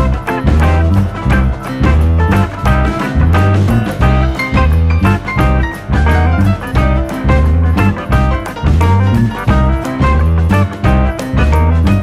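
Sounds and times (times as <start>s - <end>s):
plucked guitar: 0.0s - 12.0s
pulsing bass line: 0.0s - 12.0s
steady beat: 0.0s - 12.0s.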